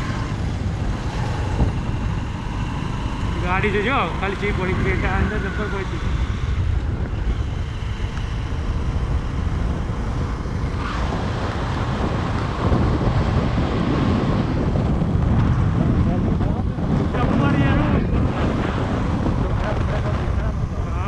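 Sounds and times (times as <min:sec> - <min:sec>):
low road rumble of vehicle: 0:00.0 - 0:21.0
wind buffeting microphone: 0:00.0 - 0:21.0.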